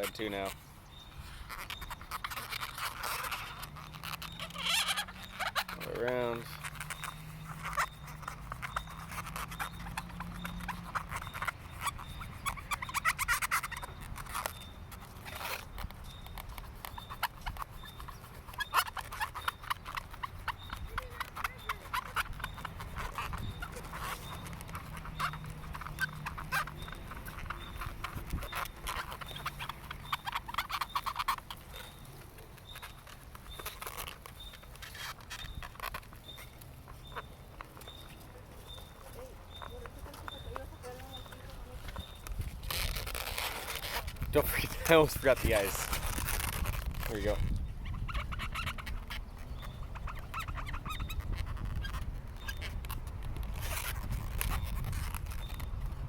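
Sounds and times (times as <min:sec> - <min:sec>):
marker squeaking on balloon: 0:00.0 - 0:56.0
rubbery balloon squeaks: 0:00.0 - 0:56.0.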